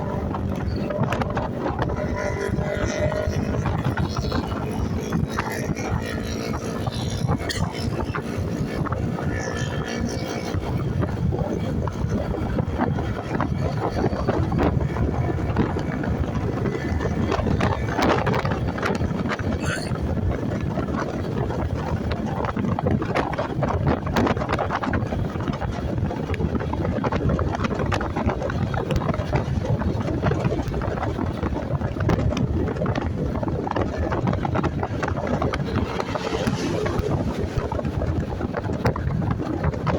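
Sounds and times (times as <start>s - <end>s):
motorcycle engine: 0.0s - 39.9s
road noise: 0.0s - 39.9s
wind rush over microphone: 0.0s - 39.9s.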